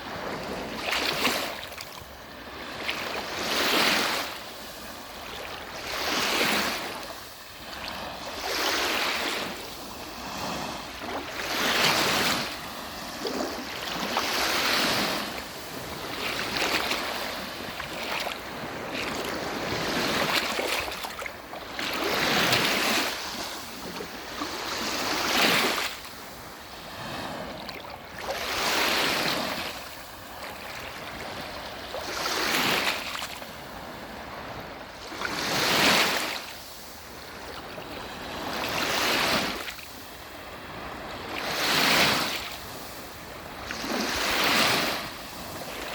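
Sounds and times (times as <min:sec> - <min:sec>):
waves washing on shore: 0:00.0 - 0:45.9.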